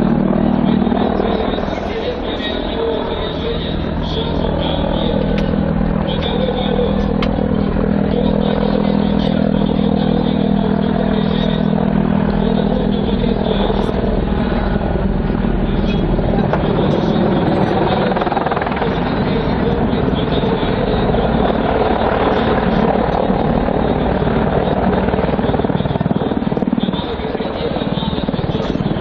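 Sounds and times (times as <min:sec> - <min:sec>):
helicopter turbine engines and rotor: 0:00.0 - 0:29.0
low steady hum: 0:00.0 - 0:29.0.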